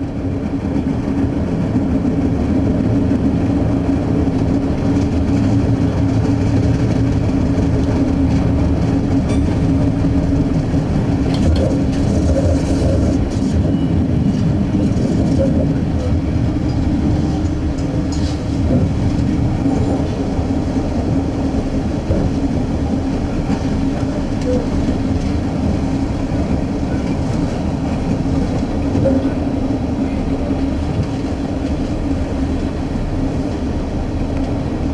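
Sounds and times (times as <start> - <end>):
railcar engine and wheel drone: 0.0 - 34.9.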